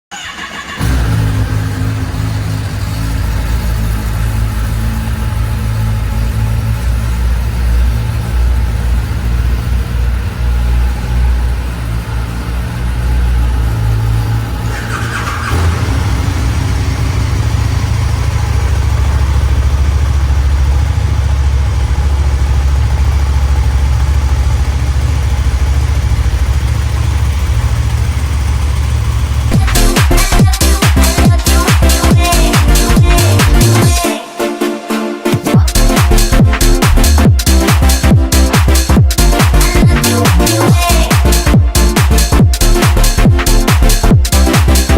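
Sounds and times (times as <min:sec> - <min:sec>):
motorcycle engines idling: 0:00.1 - 0:34.1, 0:35.6 - 0:44.9.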